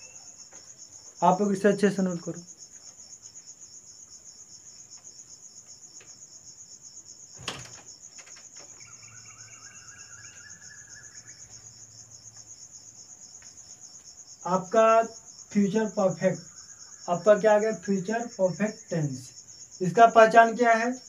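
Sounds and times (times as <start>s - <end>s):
high-pitched insect chirping: 0.0s - 21.0s.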